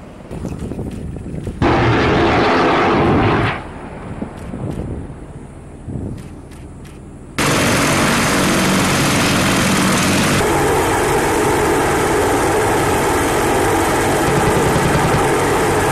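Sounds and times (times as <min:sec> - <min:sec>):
helicopter engines and rotor: 0:00.3 - 0:05.2, 0:06.1 - 0:15.9.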